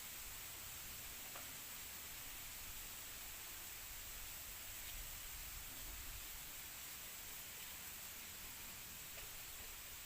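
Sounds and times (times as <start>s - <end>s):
leaves rustling in wind: 0.0s - 10.0s.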